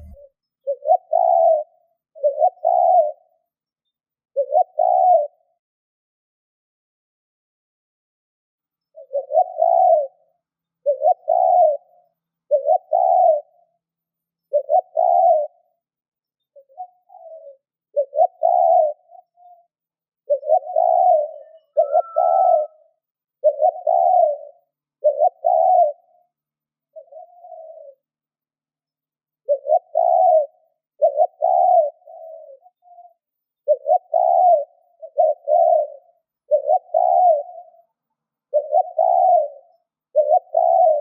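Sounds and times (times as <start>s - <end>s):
dove cooing: 0.0s - 3.4s, 4.4s - 5.5s, 9.0s - 13.7s, 14.5s - 15.7s, 16.6s - 26.3s, 26.9s - 28.0s, 29.4s - 41.0s.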